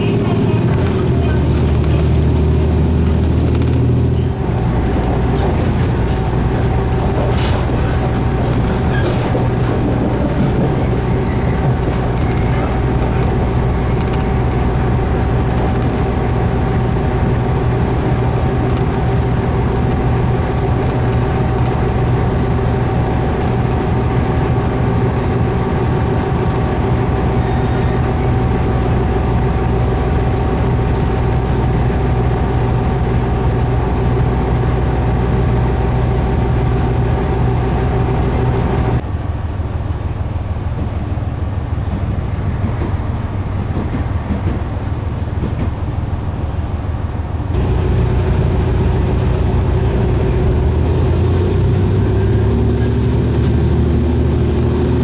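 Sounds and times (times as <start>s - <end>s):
railcar engine drone: 0.0s - 55.0s.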